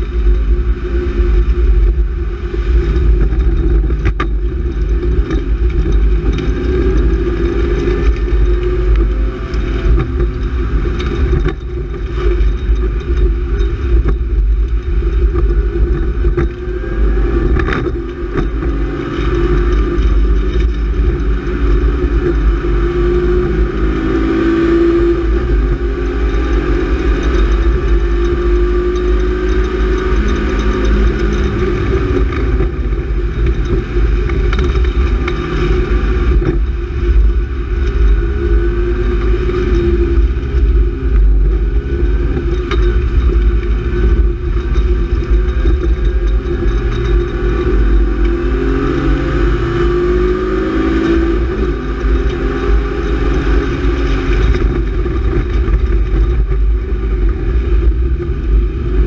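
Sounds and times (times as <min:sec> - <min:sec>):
car engine revving: 0:00.0 - 0:59.0
road and wet tyre rumble: 0:00.0 - 0:59.0.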